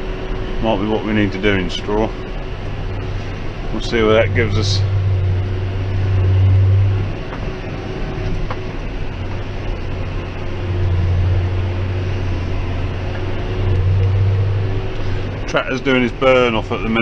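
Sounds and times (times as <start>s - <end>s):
tractor diesel engine drone: 0.0s - 17.0s.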